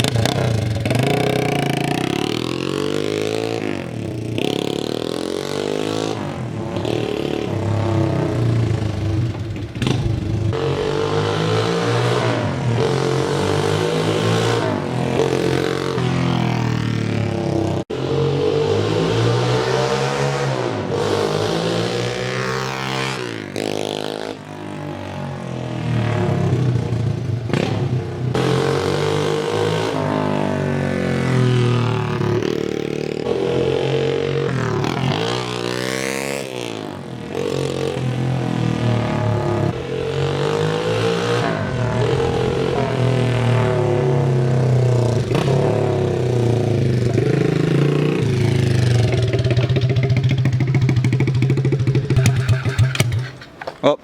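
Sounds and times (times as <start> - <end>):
pit bike engine revving: 0.0 - 54.0.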